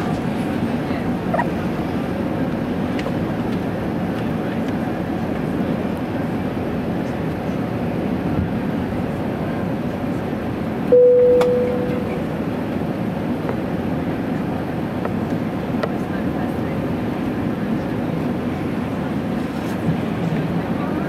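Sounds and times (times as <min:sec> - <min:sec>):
aircraft cabin rumble: 0:00.0 - 0:21.0.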